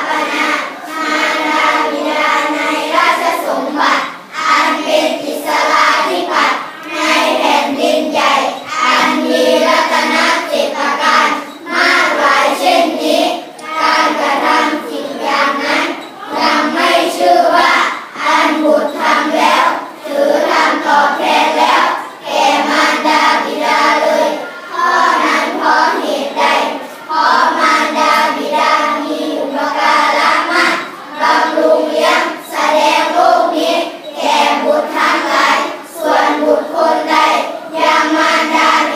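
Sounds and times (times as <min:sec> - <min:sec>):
children chanting in unison: 0:00.0 - 0:38.9.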